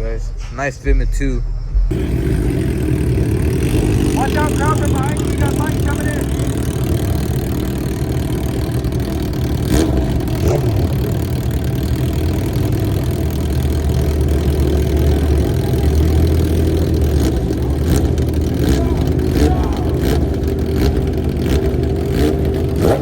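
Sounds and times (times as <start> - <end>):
engine idling: 1.9 - 23.0.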